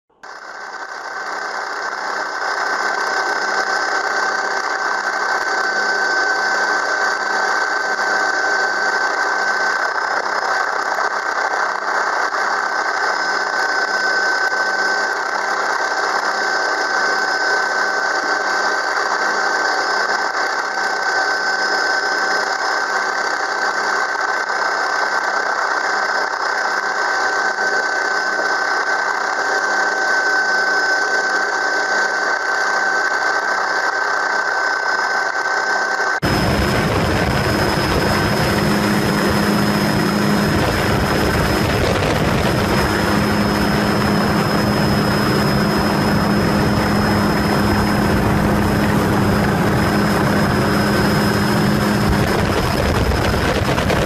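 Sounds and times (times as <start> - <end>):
aircraft engine drone with whine: 0.1 - 54.0.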